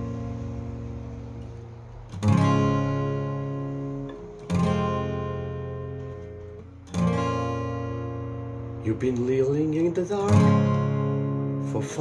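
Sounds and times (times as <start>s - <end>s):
acoustic guitar chord strummed: 0.0s - 12.0s.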